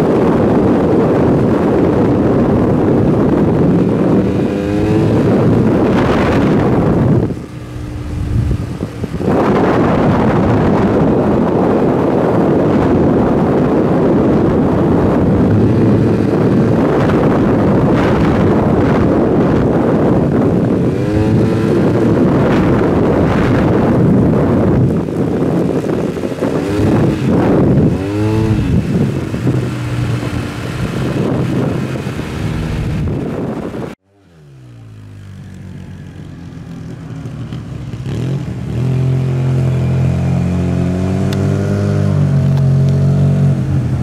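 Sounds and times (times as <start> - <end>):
scooter engine revving: 0.0 - 44.0
wind noise on microphone: 0.0 - 44.0.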